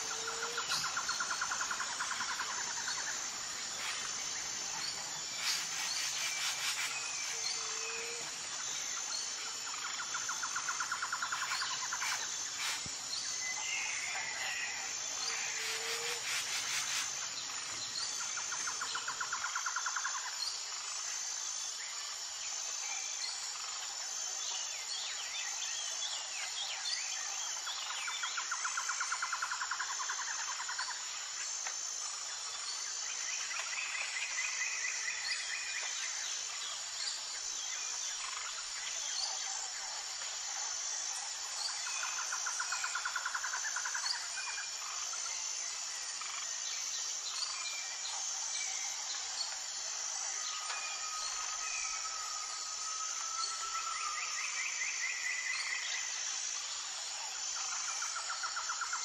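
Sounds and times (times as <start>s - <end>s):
high-pitched insect drone: 0.0s - 59.0s
pulsing insect trill: 0.0s - 59.0s.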